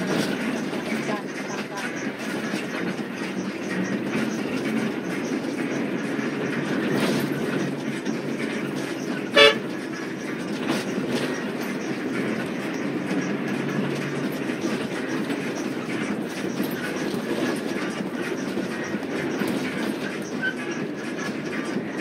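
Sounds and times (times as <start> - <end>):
vehicle rumbling and rattling inside: 0.0 - 22.0.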